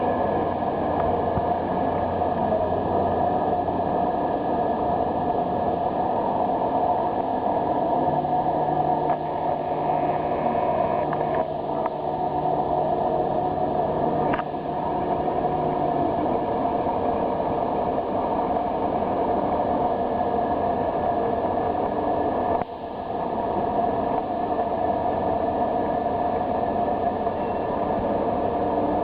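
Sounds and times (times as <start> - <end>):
crane machinery drone: 0.0 - 29.0
low hum: 0.0 - 29.0.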